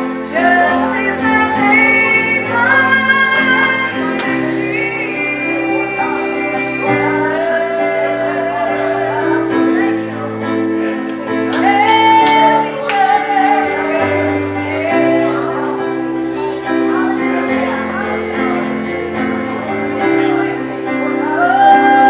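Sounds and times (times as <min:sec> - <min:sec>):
person singing gospel: 0:00.0 - 0:22.0
sustained instrumental chords: 0:00.0 - 0:22.0.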